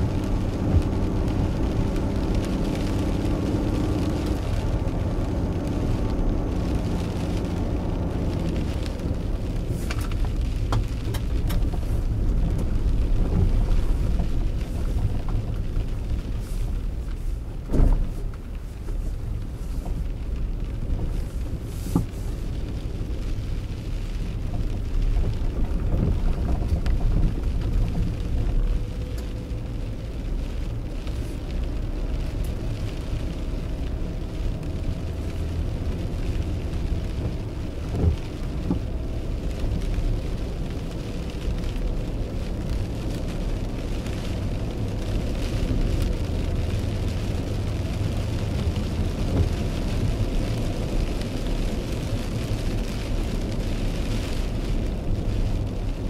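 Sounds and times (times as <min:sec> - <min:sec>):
car engine and tyres rumbling: 0:00.0 - 0:56.0
rain hissing on windshield: 0:00.0 - 0:56.0.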